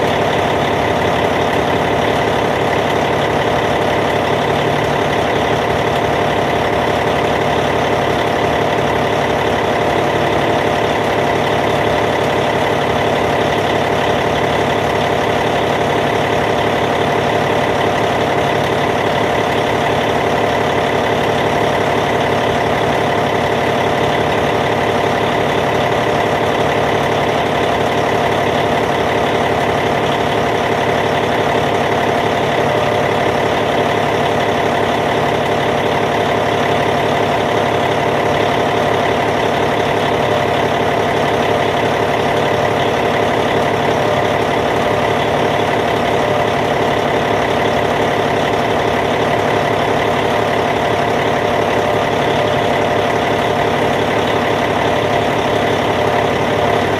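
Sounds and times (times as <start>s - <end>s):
bulldozer diesel engine idling: 0.0s - 56.9s.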